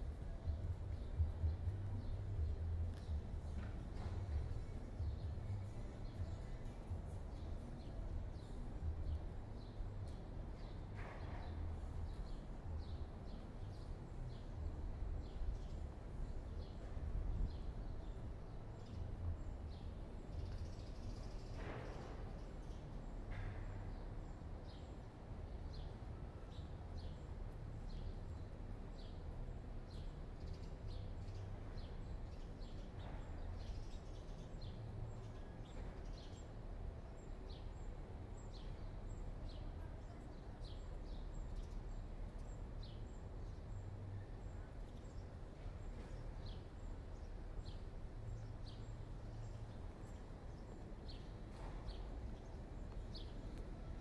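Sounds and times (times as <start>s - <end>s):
low city rumble: 0.0s - 54.0s
small birds chirping: 0.0s - 54.0s.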